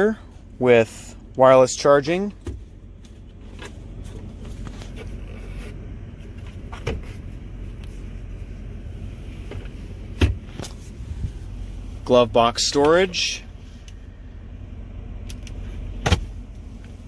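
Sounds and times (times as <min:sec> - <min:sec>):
car cabin hum: 0:00.0 - 0:17.0.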